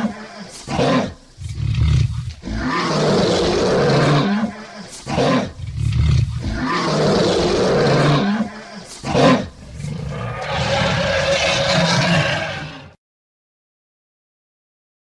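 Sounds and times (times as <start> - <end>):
lion roaring: 0.0 - 13.0.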